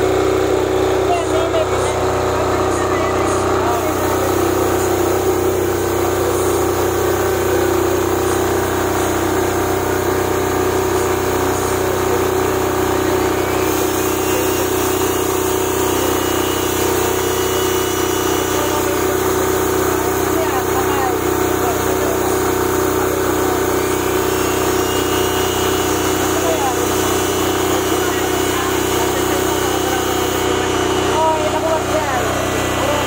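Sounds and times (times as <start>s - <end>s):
diesel generator humming: 0.0s - 33.0s.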